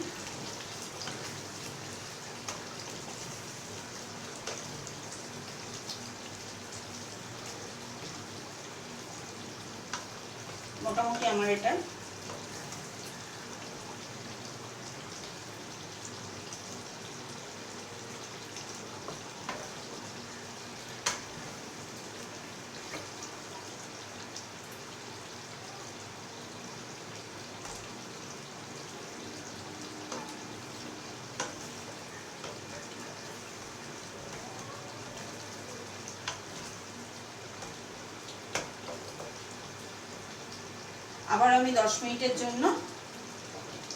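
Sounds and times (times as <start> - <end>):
curry sizzling and bubbling: 0.0 - 43.9.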